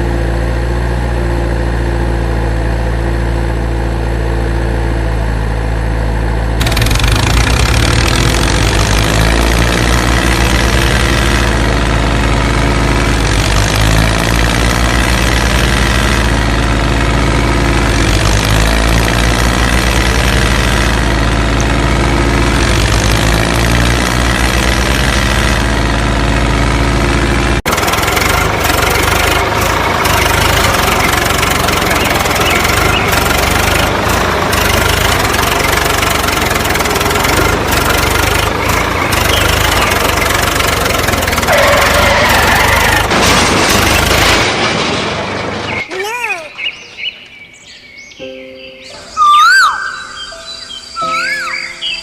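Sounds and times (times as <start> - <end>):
rough noisy engine: 0.0 - 47.5
engine running: 0.0 - 47.8, 49.0 - 52.0.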